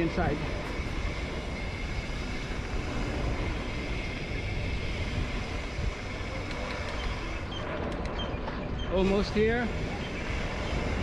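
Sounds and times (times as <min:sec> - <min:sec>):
tyres rolling over dirt trail: 0:00.0 - 0:11.0
wind rumbling on microphone: 0:00.0 - 0:11.0.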